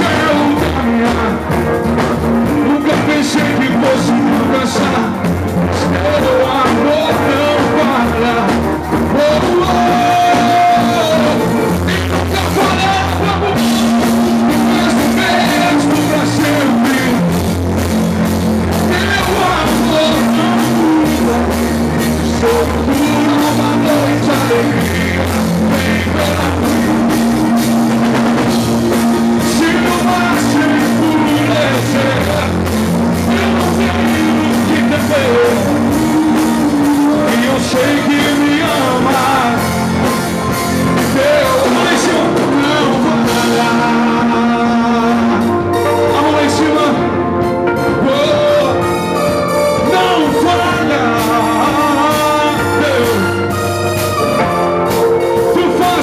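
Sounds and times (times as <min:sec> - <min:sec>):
man singing into a microphone: 0:00.0 - 0:17.6, 0:18.2 - 0:56.0
drum kit: 0:00.0 - 0:56.0
electric bass: 0:00.0 - 0:56.0
electric guitar: 0:00.0 - 0:56.0.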